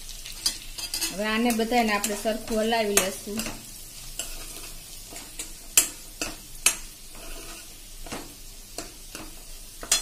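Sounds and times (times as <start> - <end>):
light sizzle of frying: 0.0 - 10.0
spoon knocking and scraping pan: 0.3 - 10.0.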